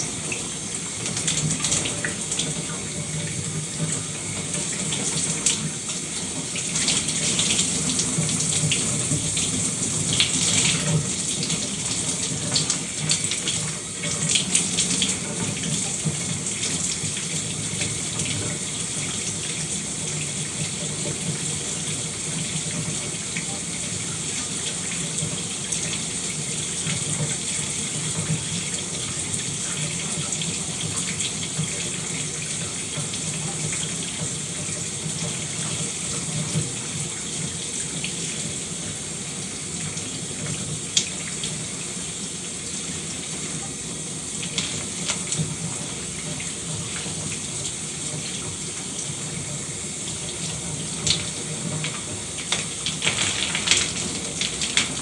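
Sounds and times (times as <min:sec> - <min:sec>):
shower water spraying: 0:00.0 - 0:36.8, 0:37.9 - 0:55.0.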